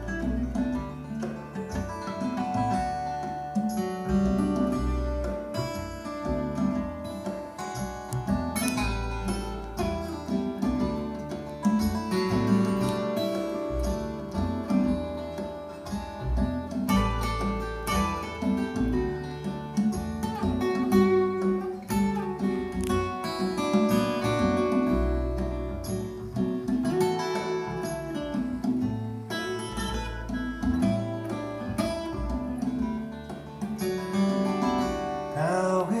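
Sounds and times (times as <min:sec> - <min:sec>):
acoustic guitar through loudspeakers: 0:00.0 - 0:36.0.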